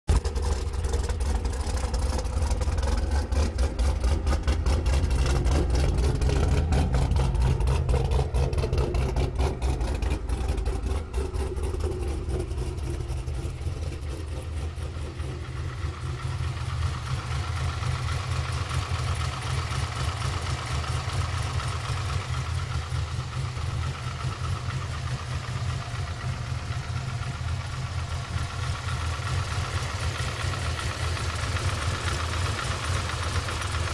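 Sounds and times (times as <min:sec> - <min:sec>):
car engine idling: 0:00.1 - 0:33.9
rapid sharp engine knocking: 0:00.1 - 0:33.9.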